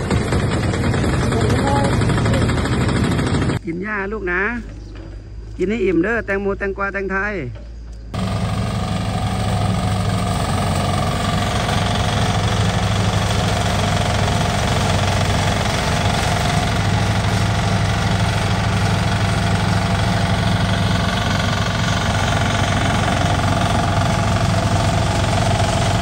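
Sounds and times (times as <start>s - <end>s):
grass chopper cutting grass: 0.0s - 3.6s, 8.2s - 26.0s
small tractor engines running: 0.0s - 3.7s, 7.6s - 26.0s.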